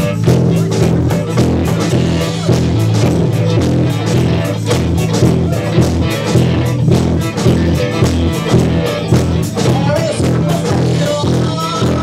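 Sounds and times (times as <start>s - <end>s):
drum kit steady beat: 0.0s - 12.0s
live band playing: 0.0s - 12.0s.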